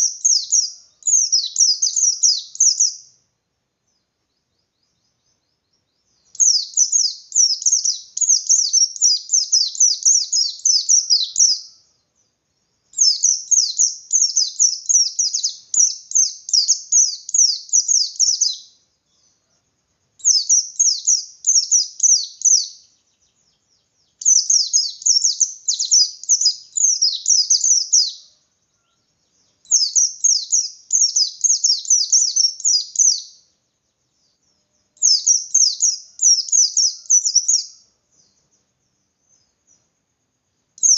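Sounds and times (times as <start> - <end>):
bird singing rapid chirps: 0.0 - 40.0.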